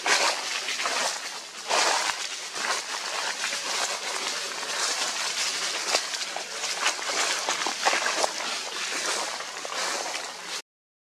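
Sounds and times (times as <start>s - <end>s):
footsteps crunching dry leaves: 0.0s - 10.6s.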